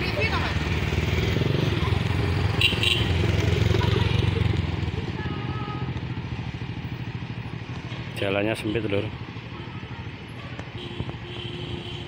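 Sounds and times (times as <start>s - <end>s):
heavier vehicle engines running: 0.0s - 12.0s
small motorcycles riding past: 0.0s - 12.0s.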